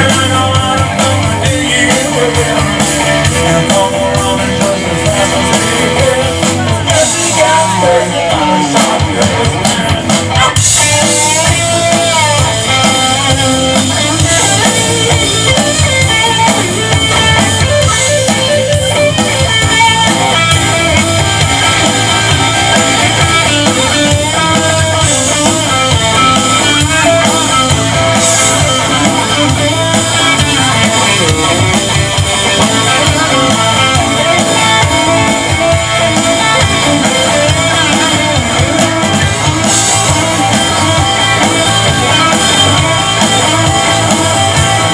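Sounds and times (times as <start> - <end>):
drum kit: 0.0 - 44.9
electric guitars: 0.0 - 44.9.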